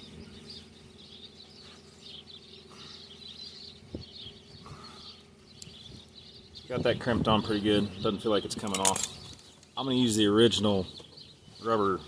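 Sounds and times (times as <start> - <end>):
faint birds chirping: 0.0 - 12.0
low steady hum: 0.0 - 12.0.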